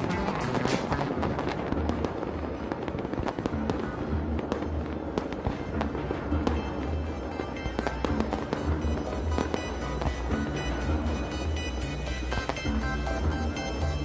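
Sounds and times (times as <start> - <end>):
fireworks bursting and crackling: 0.0 - 14.0
music with deep bass: 0.0 - 14.0.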